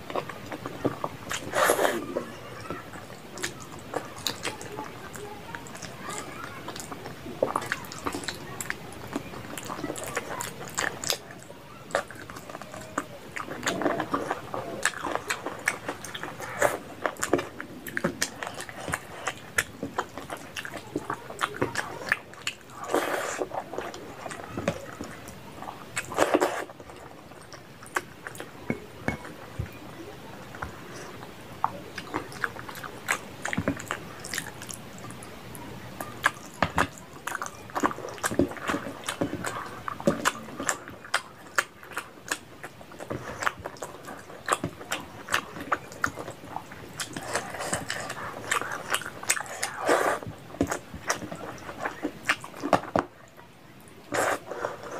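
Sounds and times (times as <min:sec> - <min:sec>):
wet chewing and lip smacking: 0:00.0 - 0:54.9.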